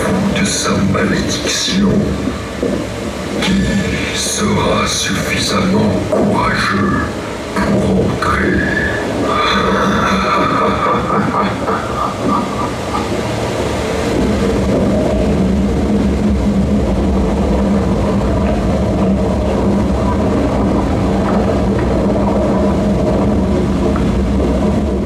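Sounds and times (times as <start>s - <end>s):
low rumbling drone: 0.0s - 25.0s
sustained hum: 0.0s - 25.0s.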